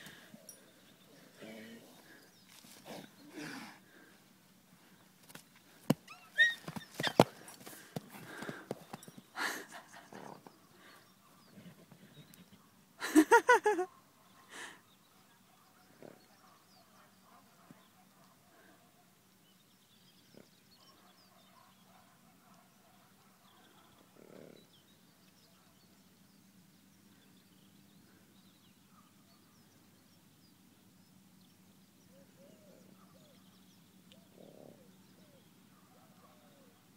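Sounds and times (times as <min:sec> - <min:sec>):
small birds chirping: 0:04.8 - 0:36.9.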